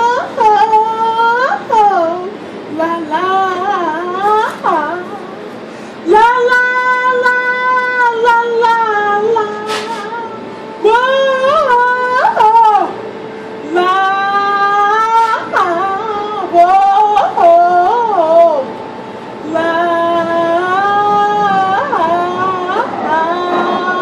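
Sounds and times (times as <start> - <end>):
woman singing unaccompanied: 0.0 - 24.0.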